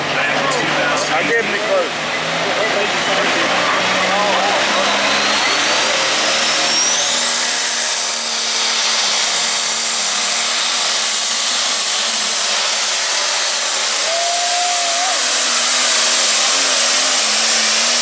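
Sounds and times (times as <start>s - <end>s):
tractor engine rasping with whine: 0.0s - 18.0s.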